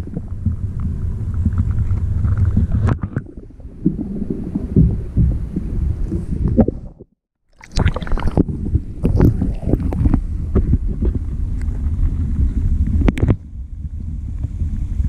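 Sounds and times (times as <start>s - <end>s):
muffled underwater rumble: 0.0s - 7.1s, 7.7s - 15.0s.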